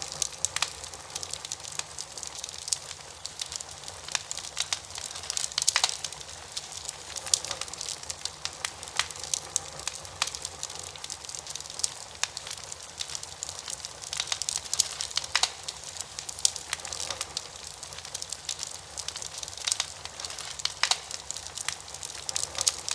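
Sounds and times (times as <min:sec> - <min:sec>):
logs crackling and popping: 0:00.0 - 0:22.9.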